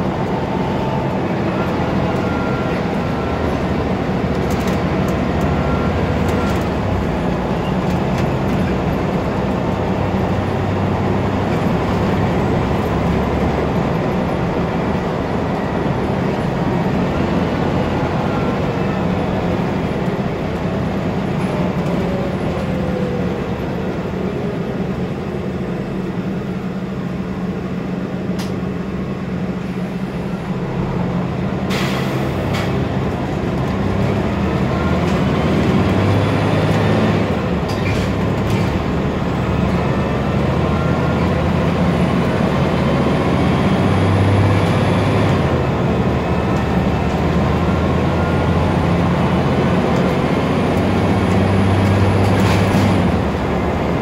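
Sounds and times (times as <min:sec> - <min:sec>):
bus diesel engine droning: 0:00.0 - 0:54.0
road noise: 0:00.0 - 0:54.0.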